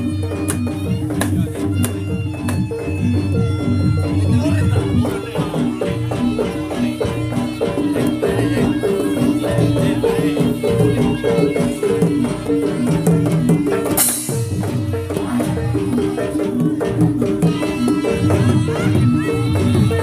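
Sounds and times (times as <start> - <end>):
drumming: 0.0 - 20.0.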